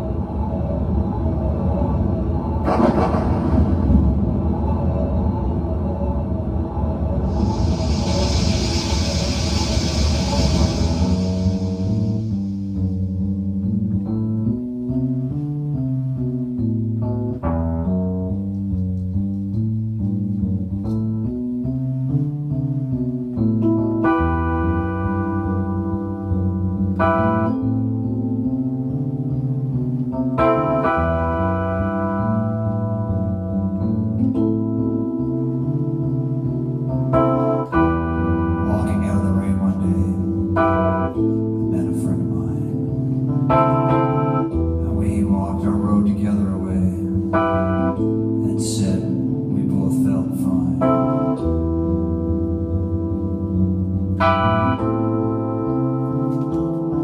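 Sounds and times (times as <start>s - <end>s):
instrumental keyboard music: 0.0s - 57.0s.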